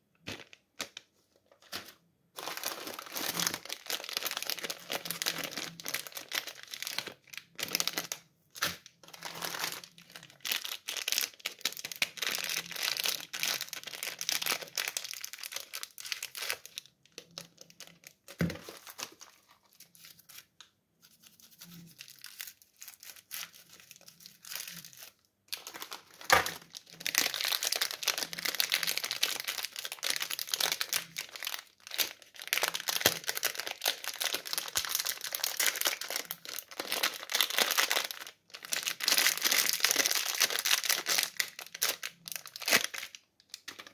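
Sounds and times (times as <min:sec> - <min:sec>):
plastic wrappers crinkling and tearing: 0:00.2 - 0:43.9.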